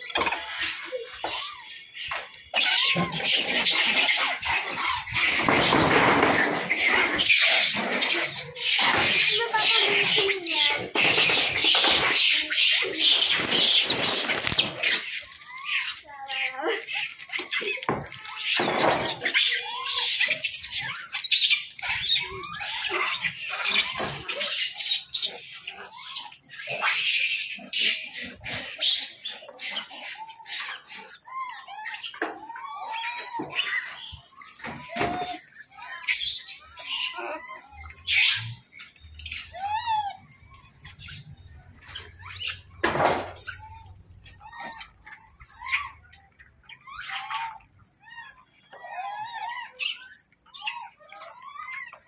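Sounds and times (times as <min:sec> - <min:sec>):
monkeys squealing and chattering: 0:00.0 - 0:52.0.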